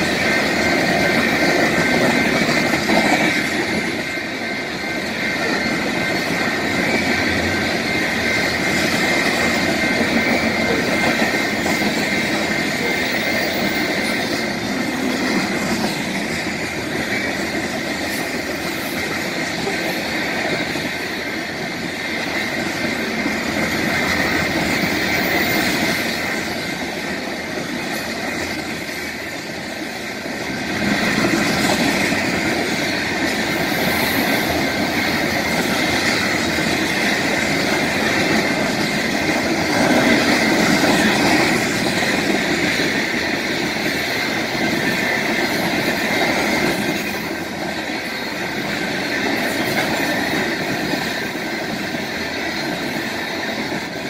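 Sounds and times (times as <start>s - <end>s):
steady high-pitched tone: 0.0s - 54.0s
train wheels rolling on rails: 0.0s - 54.0s.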